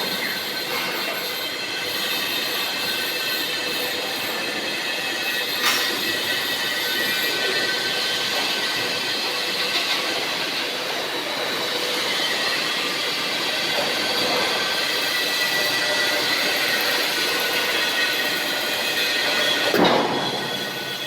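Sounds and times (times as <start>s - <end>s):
steady mechanical noise: 0.0s - 21.0s.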